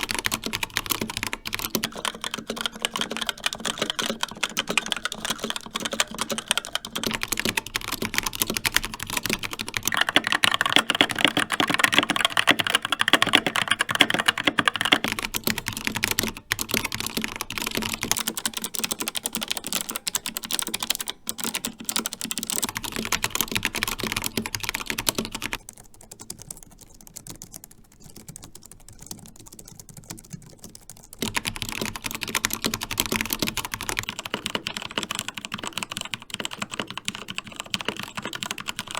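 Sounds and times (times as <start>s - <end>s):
typing on mechanical keyboards: 0.0s - 38.9s.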